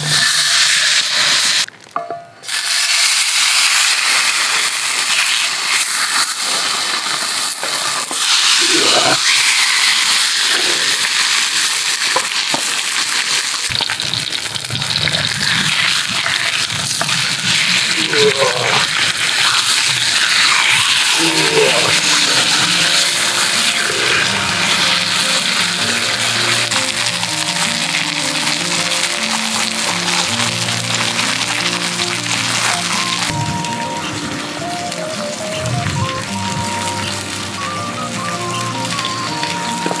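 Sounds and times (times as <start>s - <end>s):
steaks sizzling in skillet: 0.0s - 1.7s, 2.4s - 40.0s.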